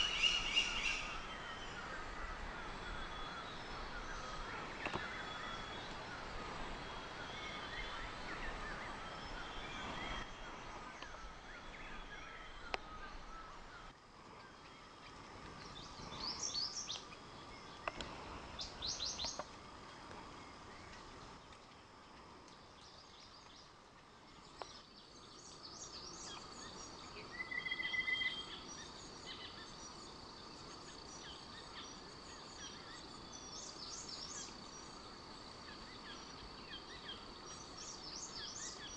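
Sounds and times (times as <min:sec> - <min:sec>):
birds chirping and trilling: 0:00.0 - 0:19.5, 0:22.8 - 0:38.9
soft steady hiss: 0:00.0 - 0:38.9.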